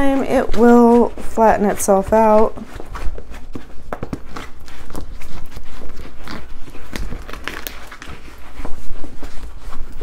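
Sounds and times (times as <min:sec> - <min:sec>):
plastic film and paper rustling: 0:00.0 - 0:10.0.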